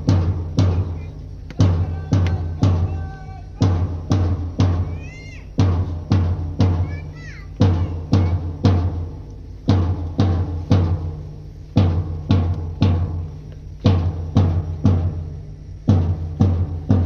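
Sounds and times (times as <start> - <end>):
bass drum marching beats: 0.0 - 17.0.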